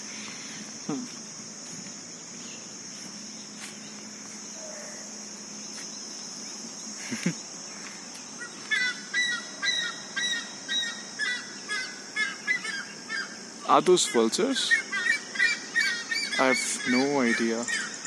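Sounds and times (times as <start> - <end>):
high drone of insects: 0.0 - 18.0
large birds calling: 2.1 - 18.0.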